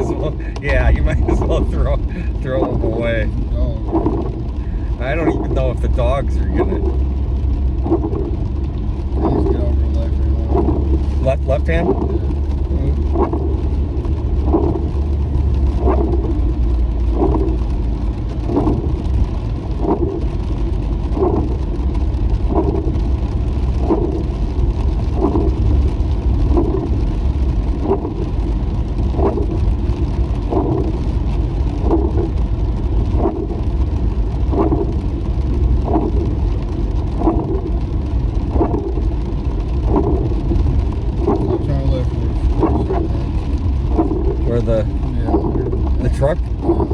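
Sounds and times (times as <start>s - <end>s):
road and engine rumble: 0.0s - 46.9s
windshield wipers sweeping: 0.0s - 46.9s.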